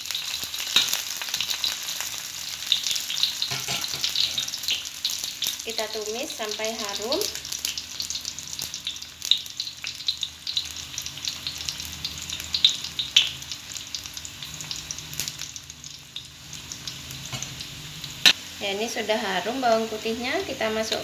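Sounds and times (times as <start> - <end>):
garlic sizzling in hot oil: 0.0 - 21.0.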